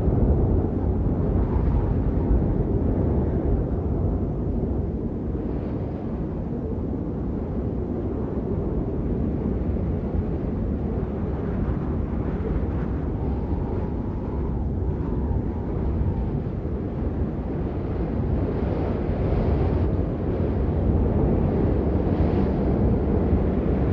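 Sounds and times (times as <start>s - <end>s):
blizzard wind blowing: 0.0s - 23.9s.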